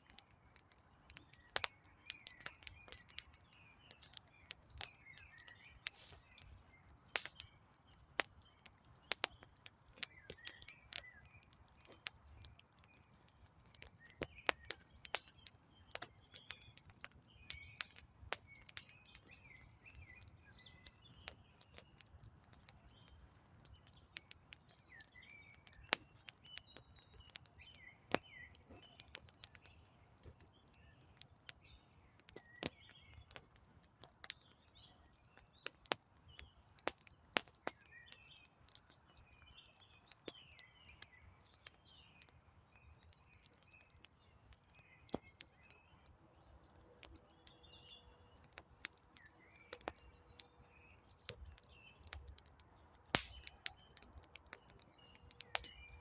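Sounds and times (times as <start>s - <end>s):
campfire crackling and popping: 0.0s - 56.0s
small birds chirping: 0.0s - 56.0s.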